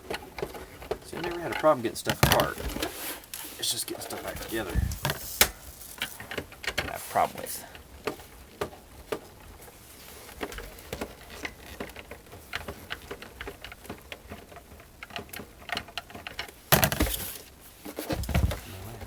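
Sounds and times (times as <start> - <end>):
screws and plastic parts clicking: 0.0 - 9.4, 10.3 - 19.0.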